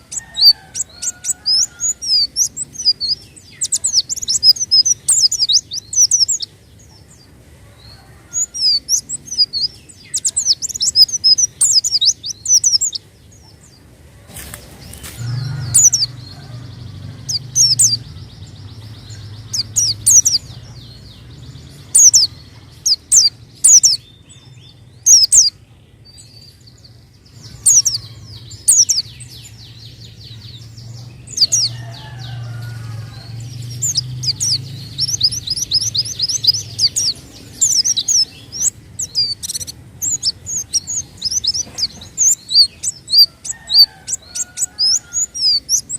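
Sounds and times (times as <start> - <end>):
bird chirping: 0.0 - 45.9.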